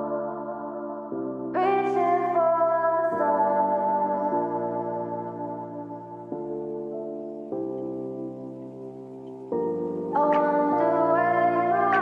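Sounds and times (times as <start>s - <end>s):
soft ambient music chords: 0.0s - 12.0s.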